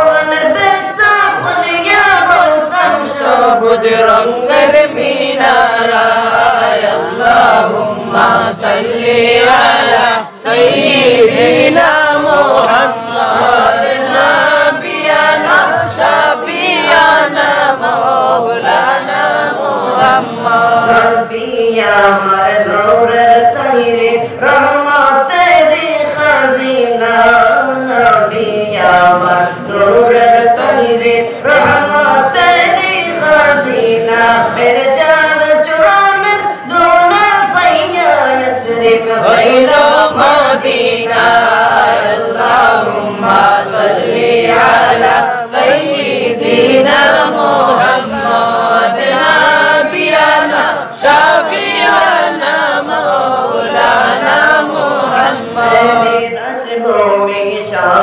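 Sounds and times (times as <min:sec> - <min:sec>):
male voices singing unaccompanied: 0:00.0 - 0:58.0.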